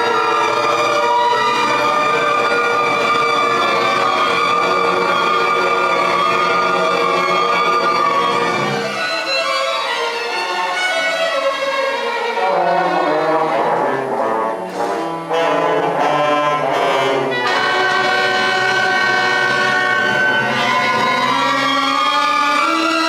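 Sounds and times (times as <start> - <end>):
school concert band playing: 0.0 - 23.0.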